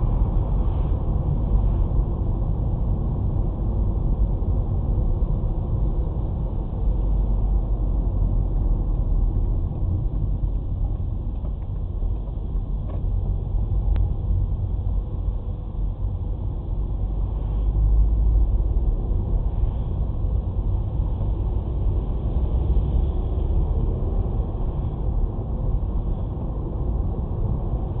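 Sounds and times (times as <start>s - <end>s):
car driving rumble: 0.0s - 28.0s.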